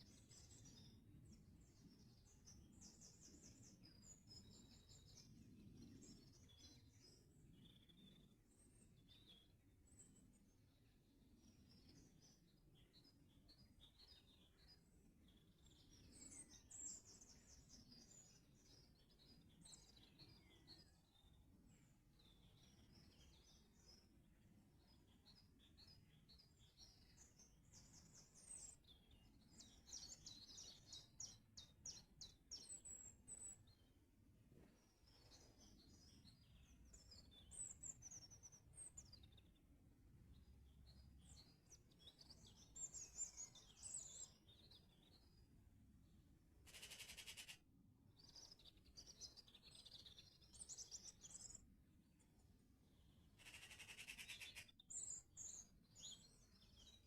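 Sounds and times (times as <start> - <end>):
faint songbirds singing: 0.0 - 57.0.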